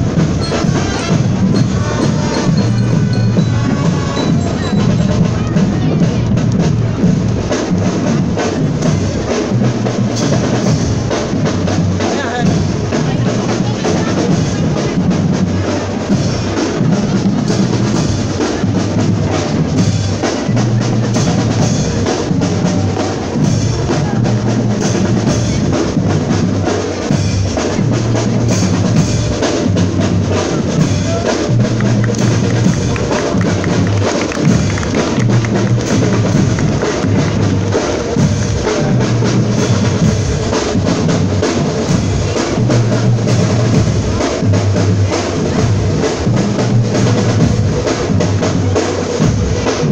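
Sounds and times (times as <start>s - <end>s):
bass drums: 0.0s - 49.9s
marching band playing: 0.0s - 49.9s
snare drums: 0.0s - 49.9s.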